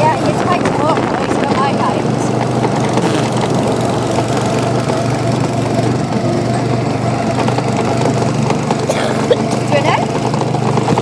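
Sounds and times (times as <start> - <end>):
go-kart engine droning: 0.0 - 11.0.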